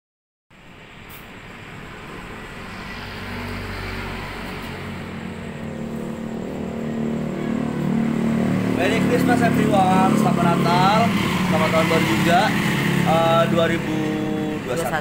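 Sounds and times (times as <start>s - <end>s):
vehicle engine humming: 0.6s - 15.0s.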